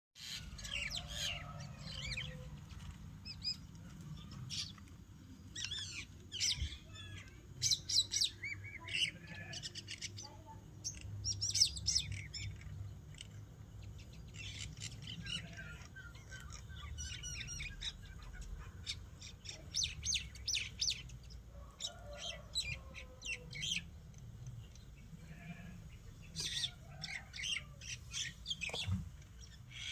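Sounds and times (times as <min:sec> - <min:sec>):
birds chirping: 0:00.2 - 0:29.9.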